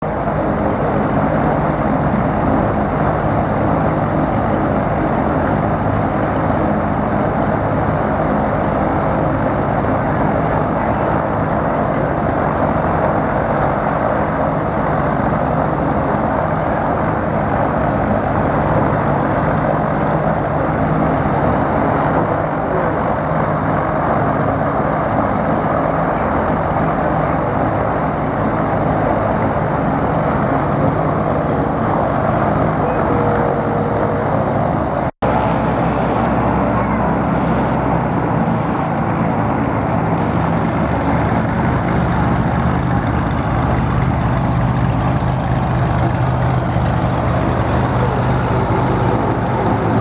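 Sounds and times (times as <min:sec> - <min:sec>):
aircraft propeller engines droning: 0:00.0 - 0:50.0.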